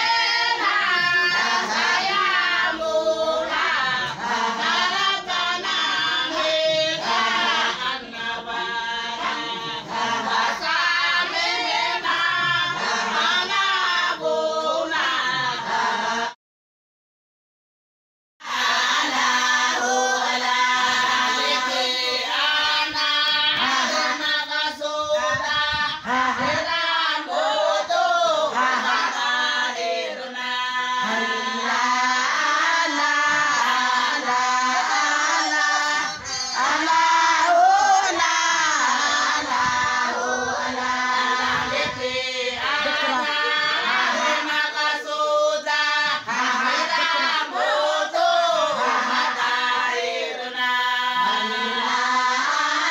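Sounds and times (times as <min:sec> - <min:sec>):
women singing in chorus: 0:00.0 - 0:16.4, 0:18.4 - 0:52.9.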